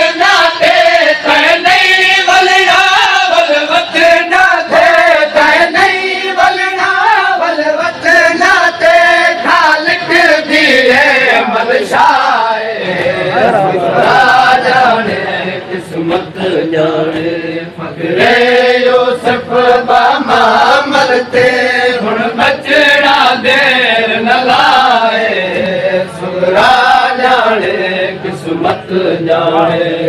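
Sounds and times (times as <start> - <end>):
men chanting in chorus: 0.0 - 30.0.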